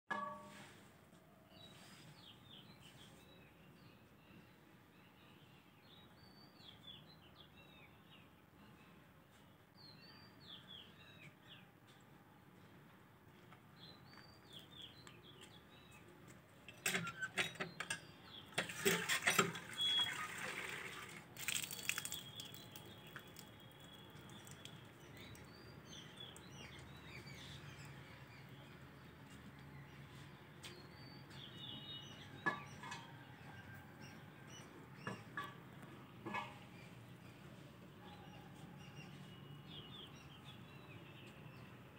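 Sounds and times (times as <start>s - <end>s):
small birds chirping: 1.5s - 18.6s, 21.4s - 41.9s.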